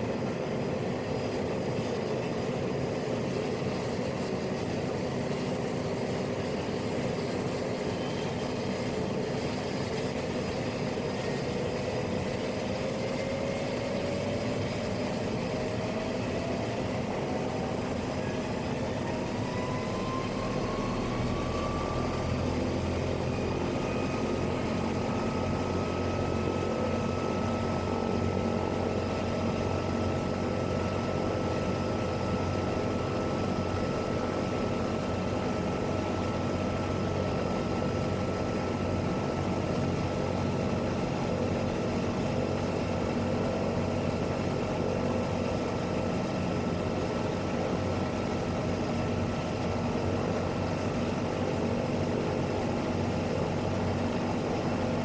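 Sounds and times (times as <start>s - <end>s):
turboprop engine whine: 0.0s - 55.0s.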